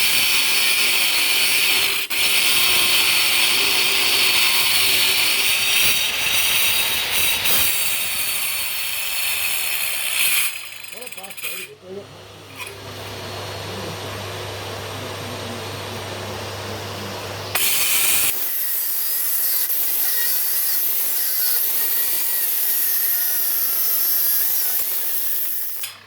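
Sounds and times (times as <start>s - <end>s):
power saw cutting stone: 0.0s - 26.0s.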